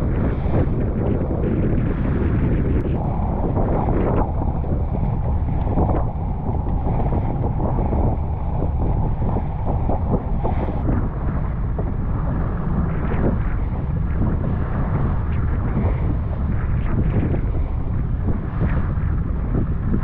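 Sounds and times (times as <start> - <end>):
outboard motor drone: 0.0 - 20.0
wind buffeting microphone: 0.0 - 20.0.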